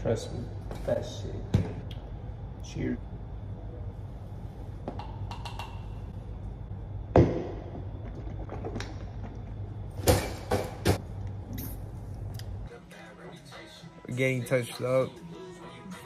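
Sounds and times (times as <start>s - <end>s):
ventilation hum: 0.0s - 16.0s.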